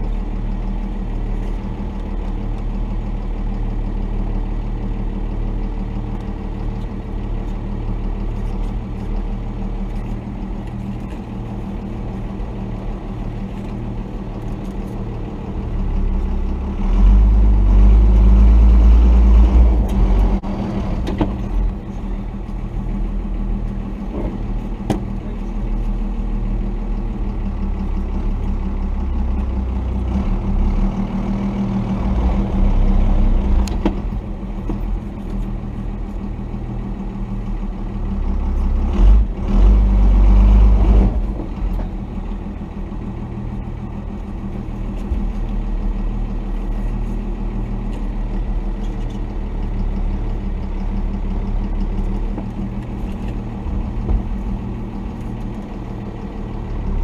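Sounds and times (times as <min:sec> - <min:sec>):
diesel pickup engine running: 0:00.0 - 0:57.0.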